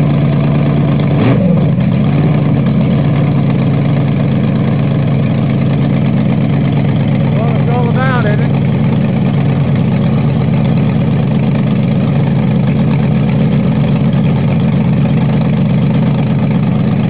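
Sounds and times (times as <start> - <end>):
drag car engine idling: 0.0 - 17.0.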